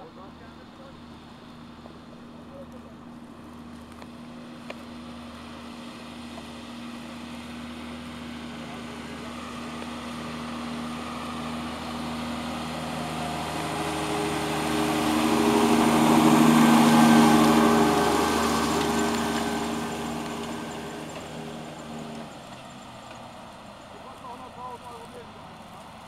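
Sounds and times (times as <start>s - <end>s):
farm machine engine passing: 0.0s - 26.0s.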